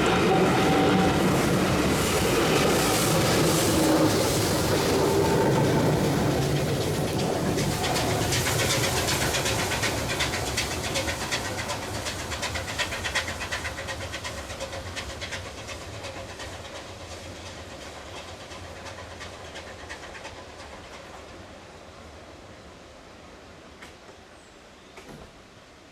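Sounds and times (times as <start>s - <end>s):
train wheels clicking over rail joints: 0.0s - 21.7s, 25.0s - 25.4s.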